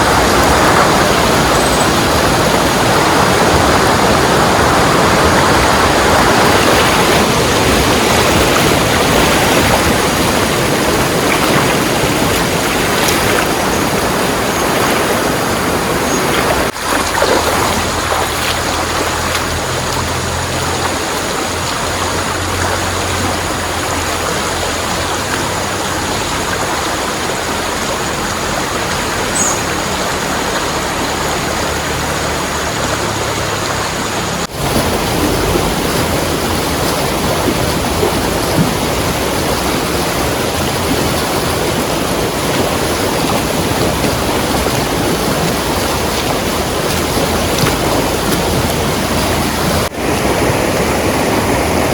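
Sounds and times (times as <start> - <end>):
fast-flowing river rushing: 0.0 - 51.9.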